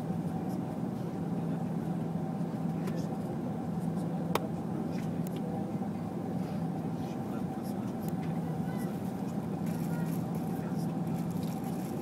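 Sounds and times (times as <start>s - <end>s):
jet engine hum: 0.0s - 9.6s.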